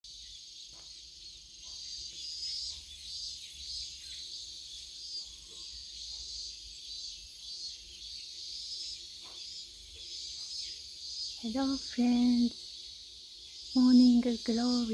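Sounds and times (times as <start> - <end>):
cicadas buzzing: 0.1 - 14.9.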